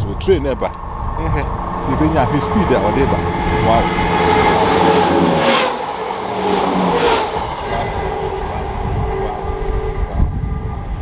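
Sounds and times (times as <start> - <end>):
level whine: 0.0 - 11.0
passenger train rumbling past: 0.0 - 11.0.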